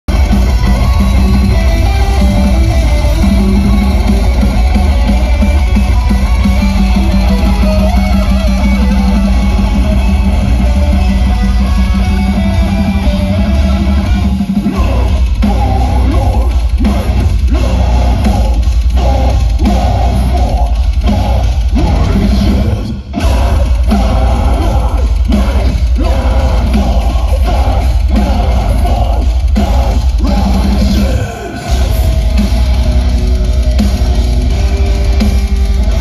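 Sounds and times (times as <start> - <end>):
distorted electric guitars: 0.0 - 36.0
pounding drum kit: 0.0 - 36.0.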